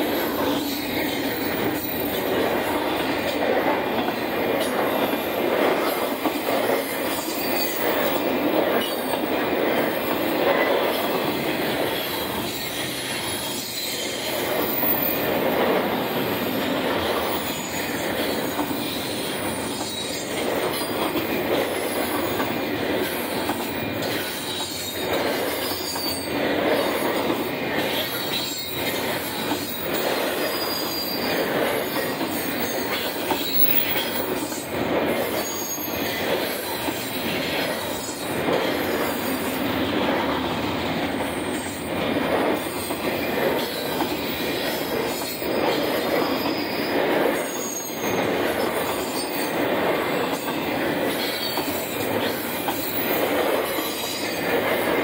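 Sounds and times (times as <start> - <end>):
freight train wheels rumbling on rail: 0.0 - 55.0.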